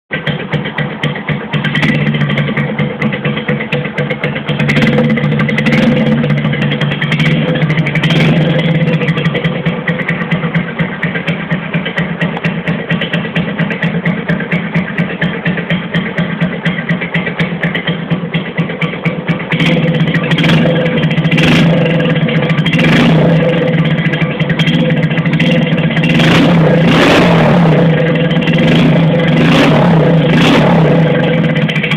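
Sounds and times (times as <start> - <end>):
engine idling through loud exhaust: 0.1 - 31.9.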